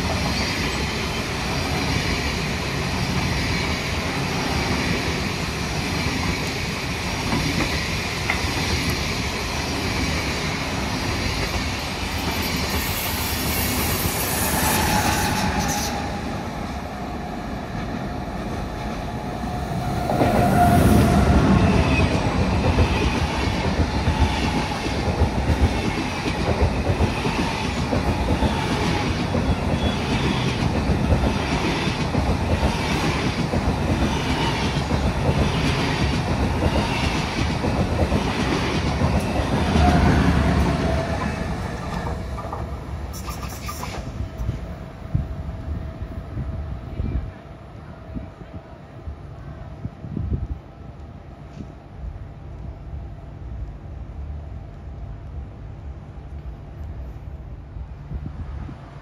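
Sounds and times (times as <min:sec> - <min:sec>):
train rolling on track: 0:00.0 - 0:59.0.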